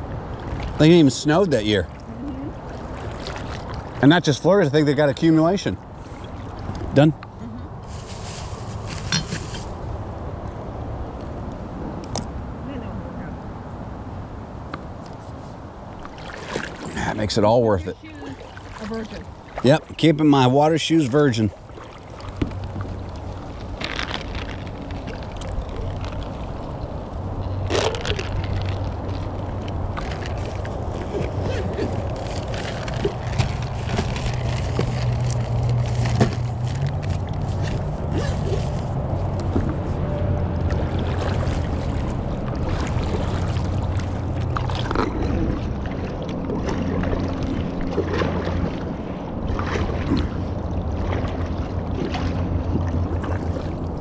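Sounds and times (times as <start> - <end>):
kayak paddles splashing: 0.0 - 10.1, 14.9 - 54.0
water sloshing along hull: 0.0 - 54.0.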